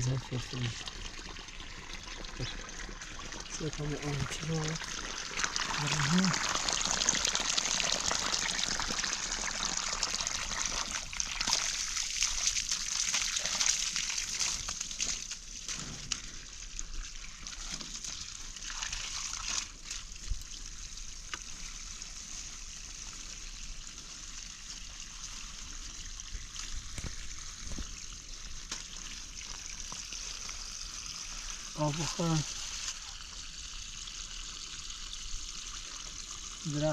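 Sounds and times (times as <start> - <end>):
water running and trickling: 0.0 - 36.9.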